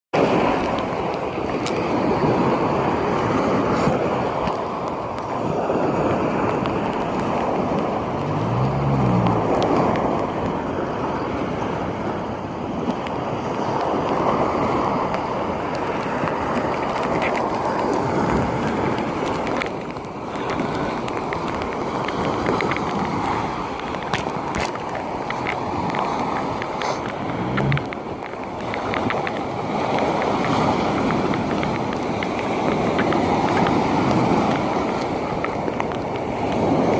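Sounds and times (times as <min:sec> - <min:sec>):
small waves breaking on beach: 0:00.2 - 0:36.9
wind buffeting microphone: 0:00.2 - 0:36.9.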